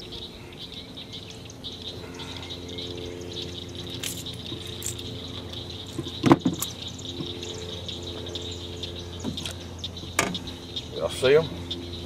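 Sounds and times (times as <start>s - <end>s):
birds chirping: 0.0s - 12.0s
insects chirping: 0.0s - 12.0s
low hum: 0.0s - 12.0s.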